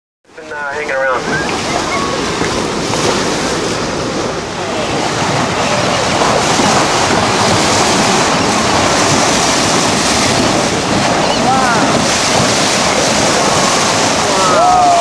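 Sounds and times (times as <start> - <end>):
sea water splashing: 0.3 - 15.0
wind buffeting microphone: 0.9 - 15.0.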